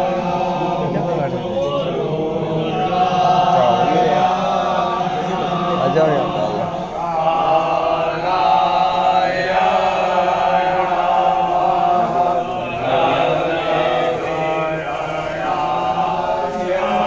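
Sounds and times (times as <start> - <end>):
men chanting together: 0.0 - 17.0.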